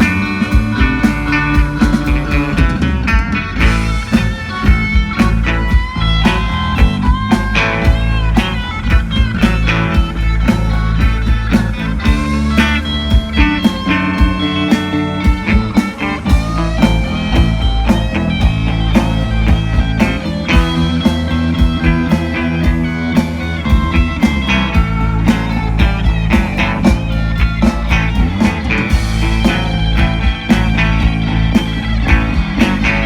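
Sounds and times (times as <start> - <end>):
bass: 0.0 - 33.0
drums: 0.0 - 33.0
lead guitar: 0.0 - 33.0.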